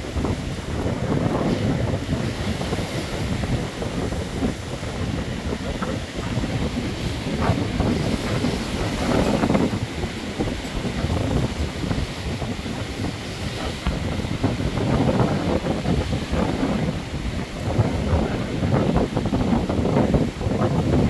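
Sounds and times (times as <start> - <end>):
waves breaking on rocks: 0.0 - 21.0
wind buffeting microphone: 0.0 - 21.0.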